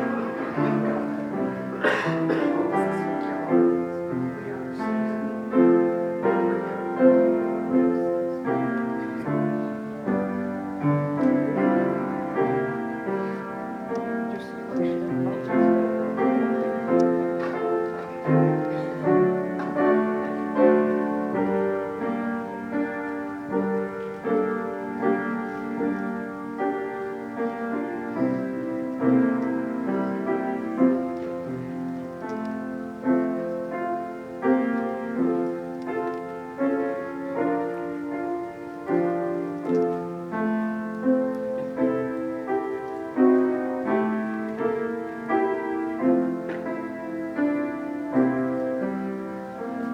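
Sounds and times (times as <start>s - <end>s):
piano playing: 0.0s - 49.9s.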